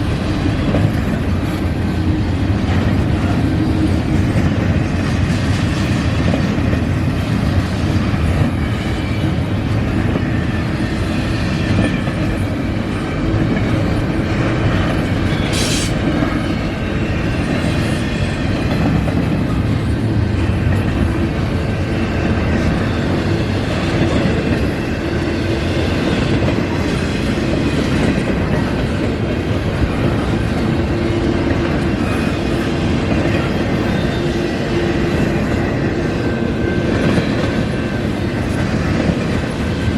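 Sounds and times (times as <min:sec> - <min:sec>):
clickety-clack over rail joints: 0:00.0 - 0:39.9
freight train wheels rumbling: 0:00.0 - 0:39.9.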